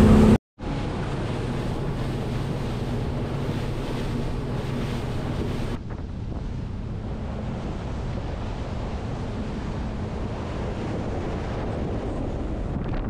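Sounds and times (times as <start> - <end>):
boat engine drone: 0.0 - 13.0
water rushing past hull: 0.0 - 13.0
wind buffeting microphone: 0.0 - 13.0.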